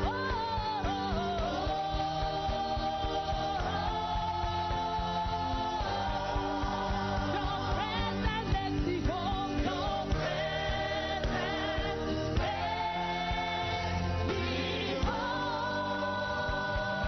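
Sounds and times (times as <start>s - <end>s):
gospel singing over a beat: 0.0s - 17.0s.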